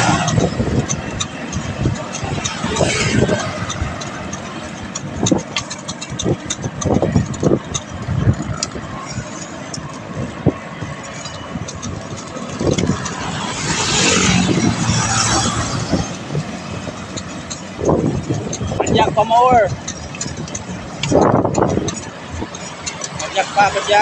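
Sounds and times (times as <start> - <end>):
motor vehicle passing: 0.0 - 24.0
scattered clicks: 0.0 - 24.0
thumps and rumble: 0.0 - 24.0
wind buffeting microphone: 0.0 - 24.0.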